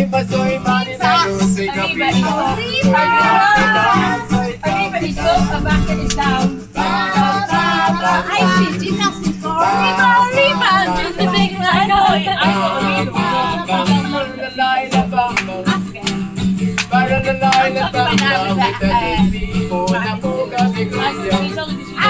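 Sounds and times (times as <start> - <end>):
acoustic guitar strumming: 0.0 - 22.0
person singing: 0.0 - 22.0.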